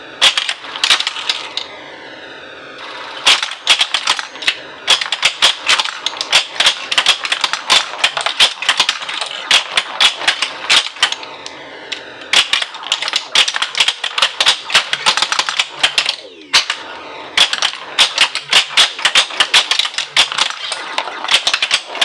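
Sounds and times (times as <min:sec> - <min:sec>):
pinball machine clatter: 0:00.2 - 0:01.6, 0:03.2 - 0:11.2, 0:12.3 - 0:16.8, 0:17.4 - 0:22.0.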